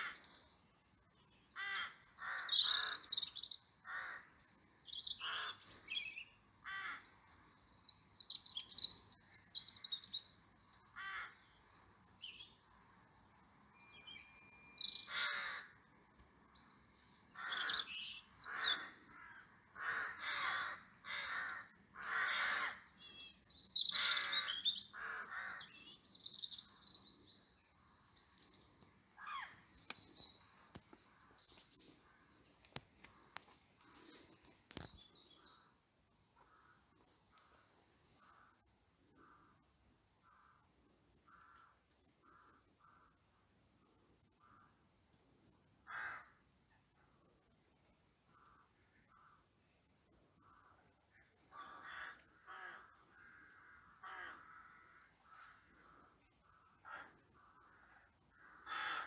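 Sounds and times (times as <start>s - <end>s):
birds calling: 1.3s - 12.6s, 13.9s - 15.9s, 16.6s - 44.8s, 50.2s - 59.0s.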